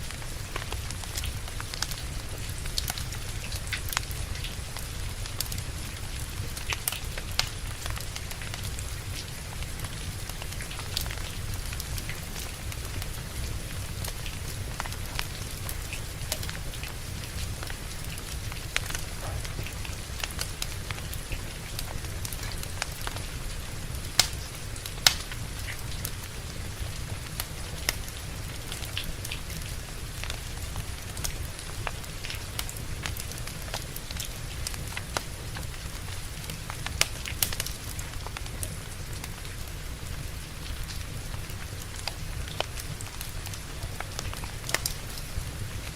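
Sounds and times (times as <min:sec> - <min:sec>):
steady rain: 0:00.0 - 0:45.9
wood fire crackling: 0:00.0 - 0:45.9.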